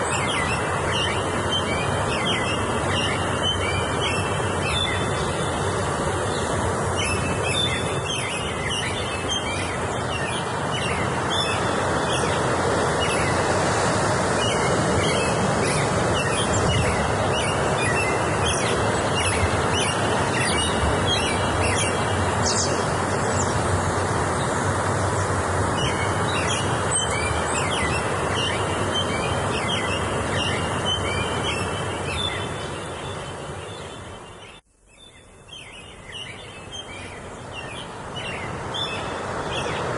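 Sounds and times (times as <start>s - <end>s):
steady rushing noise: 0.0s - 34.4s
small birds chirping: 0.0s - 39.9s.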